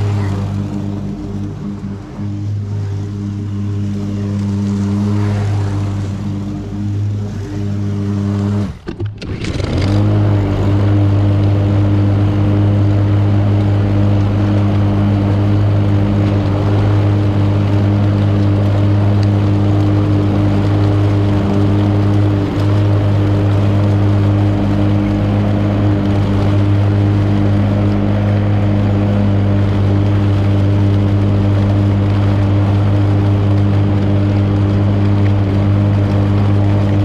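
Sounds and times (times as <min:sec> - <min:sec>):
lawn mower engine running: 0:00.0 - 0:37.0.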